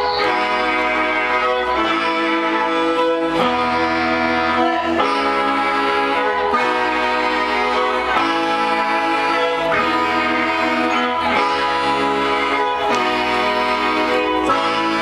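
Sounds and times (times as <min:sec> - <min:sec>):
bowed violins playing held notes: 0:00.0 - 0:15.0
instrumental backing music: 0:00.0 - 0:15.0.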